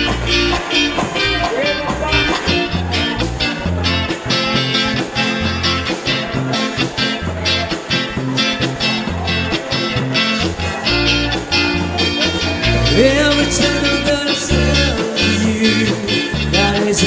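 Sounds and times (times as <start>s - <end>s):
band playing cha-cha: 0.0s - 17.0s.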